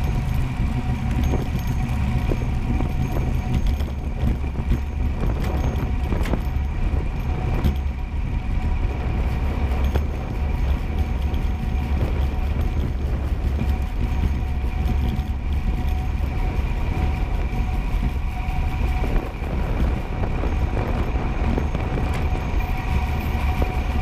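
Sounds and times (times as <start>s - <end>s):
wheels rolling on asphalt: 0.0s - 24.0s.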